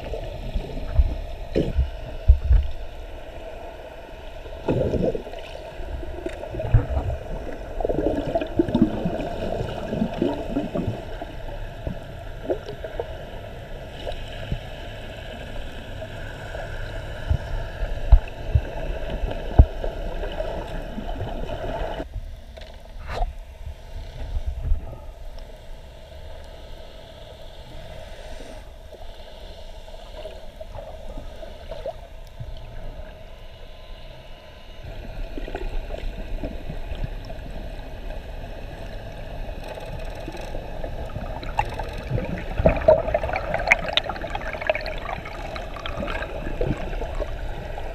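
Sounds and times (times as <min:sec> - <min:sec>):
muffled underwater water rushing: 0:00.0 - 0:47.9.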